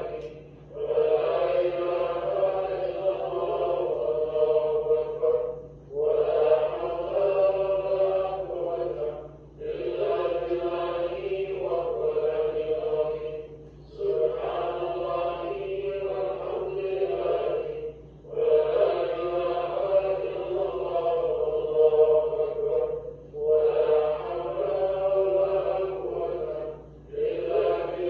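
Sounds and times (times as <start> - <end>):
congregation chanting in unison: 0.0 - 28.0.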